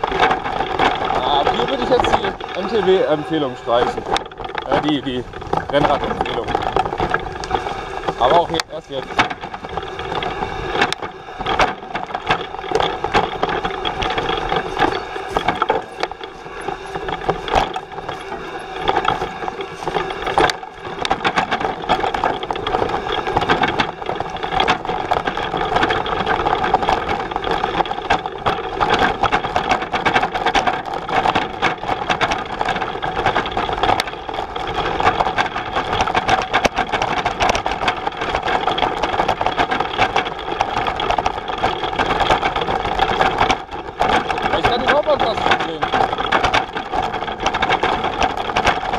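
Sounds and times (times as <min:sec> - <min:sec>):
cargo bike rattling on trail: 0:00.0 - 0:48.9
steady mechanical hum: 0:00.0 - 0:48.9.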